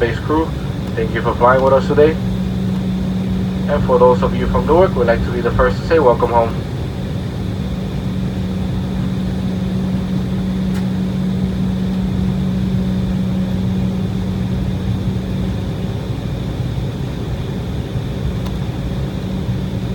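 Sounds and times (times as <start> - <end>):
jet engines idling in cabin: 0.0 - 19.9.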